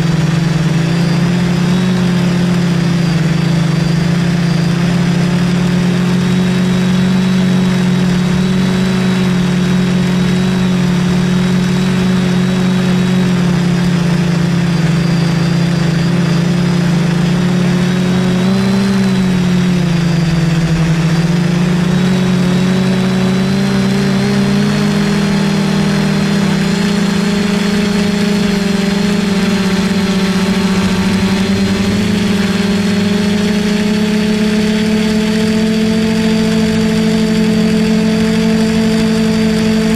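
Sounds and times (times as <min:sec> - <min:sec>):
quadcopter propellers droning: 0:00.0 - 0:39.9.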